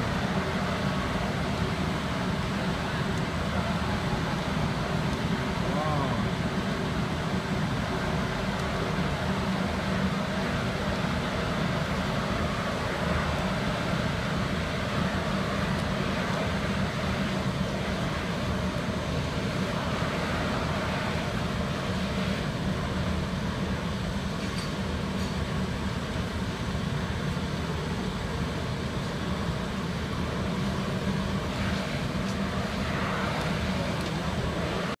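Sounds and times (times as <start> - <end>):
burner blower and flame rushing: 0.0 - 35.0
low hum: 0.0 - 35.0.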